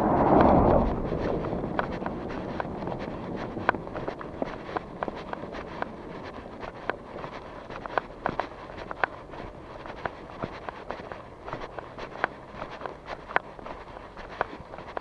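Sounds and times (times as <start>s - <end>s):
footsteps clicking: 0.2s - 15.0s.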